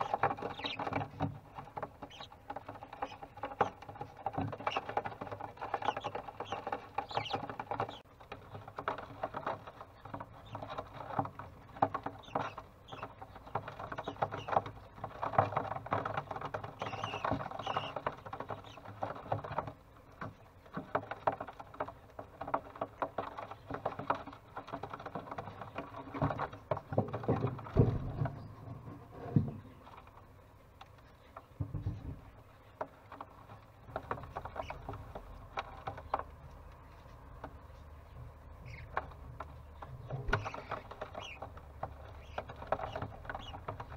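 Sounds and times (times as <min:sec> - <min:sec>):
chicks scratching in nest box: 0:00.0 - 0:30.2, 0:31.0 - 0:43.9.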